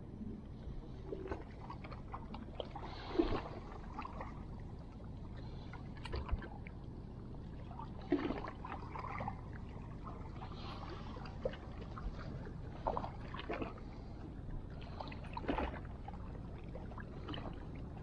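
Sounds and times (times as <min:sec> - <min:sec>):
low steady rumble: 0:00.0 - 0:18.0
water lapping among rocks: 0:00.9 - 0:18.0
soft splashes: 0:01.0 - 0:18.0.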